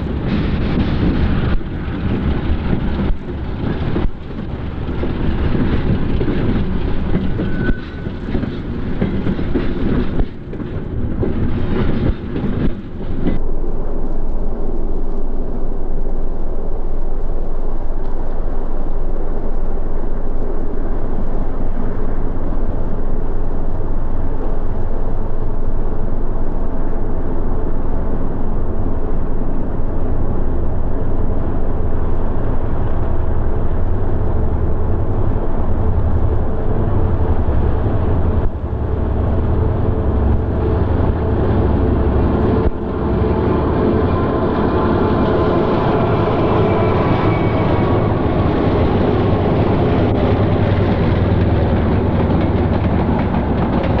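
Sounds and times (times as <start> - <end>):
distant train rumble: 0.0 - 54.0
train cars rumbling and rattling: 0.0 - 54.0.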